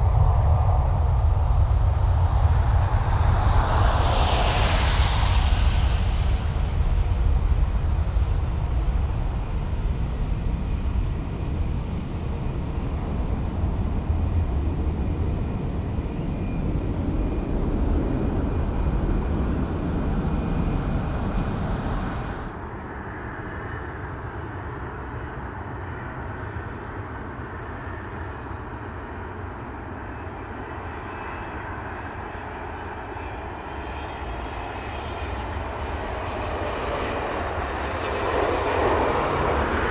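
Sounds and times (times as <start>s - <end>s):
jet airliner engines rumbling: 0.0s - 39.9s.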